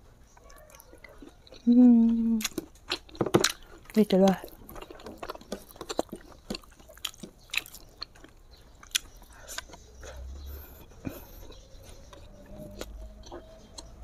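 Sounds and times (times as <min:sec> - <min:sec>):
person chewing with wet smacks: 0:00.4 - 0:14.0.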